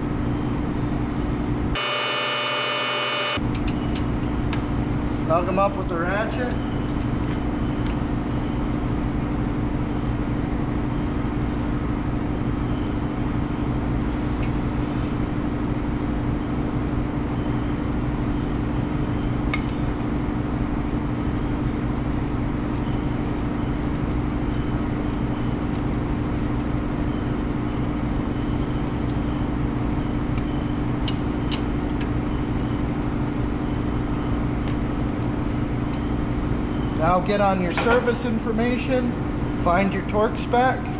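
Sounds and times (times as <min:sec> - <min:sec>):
workshop machinery hum: 0:00.0 - 0:40.9.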